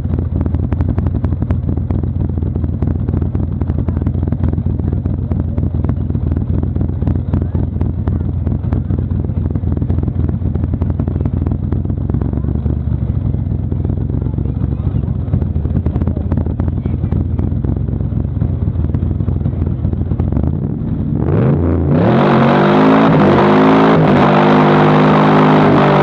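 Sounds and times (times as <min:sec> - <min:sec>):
car engine rumbling: 0:00.0 - 0:26.0
road noise: 0:00.0 - 0:26.0.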